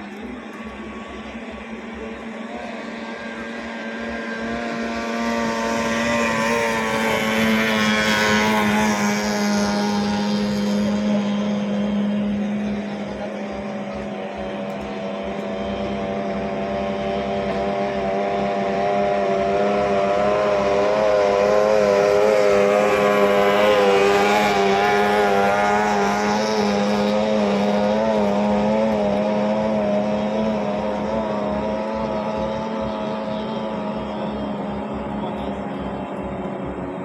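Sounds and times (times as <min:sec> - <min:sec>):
outboard motors at high revs: 0:00.0 - 0:37.0.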